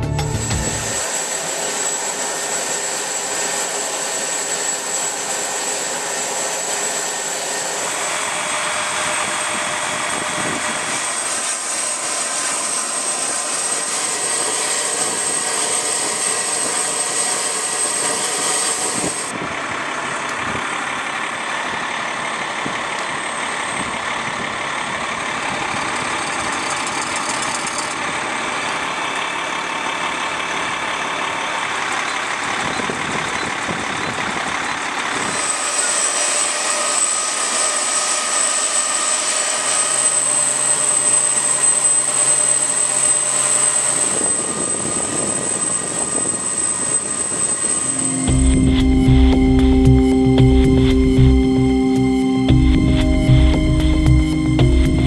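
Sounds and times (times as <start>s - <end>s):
high whine: 0.0s - 29.5s, 32.0s - 55.0s
fuel truck engine and pump idling: 0.0s - 55.0s.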